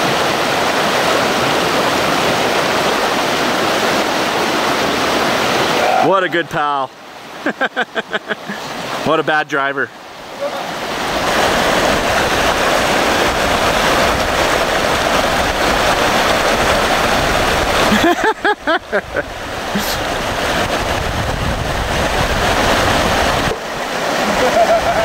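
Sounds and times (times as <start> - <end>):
river rapids rushing over rocks: 0.0 - 25.0.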